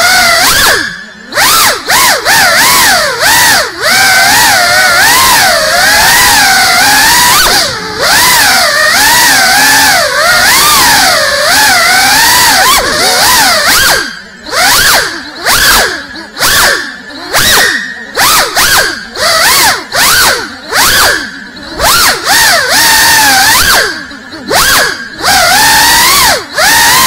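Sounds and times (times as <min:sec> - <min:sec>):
drone motors and propellers whining: 0:00.0 - 0:27.0.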